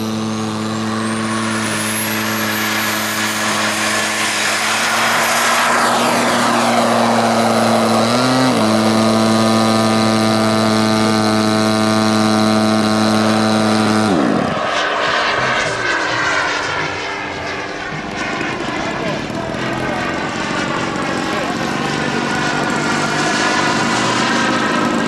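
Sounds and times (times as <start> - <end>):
faint aircraft engine noise: 0.0 - 9.3, 14.2 - 25.0
model airplane engine running: 0.0 - 25.0.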